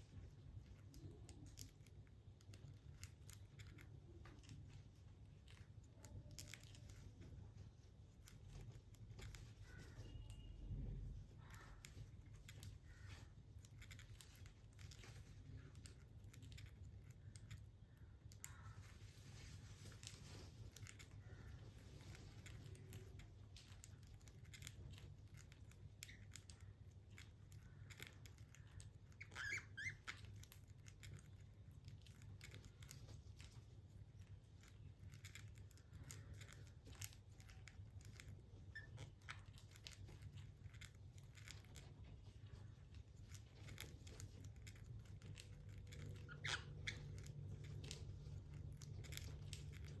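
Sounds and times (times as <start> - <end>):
budgies clicking and scratching: 0.0 - 50.0
low steady hum: 0.0 - 50.0.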